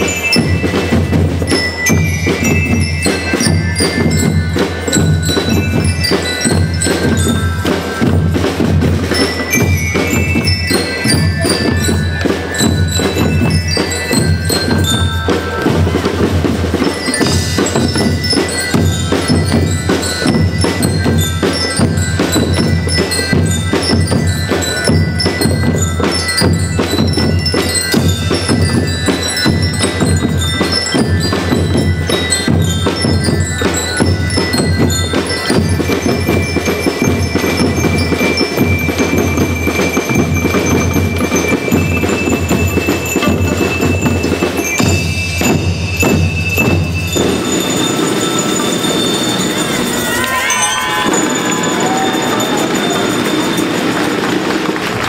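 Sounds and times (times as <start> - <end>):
bell lyres melody: 0.0 - 54.8
snare and bass drums beat: 0.0 - 55.0.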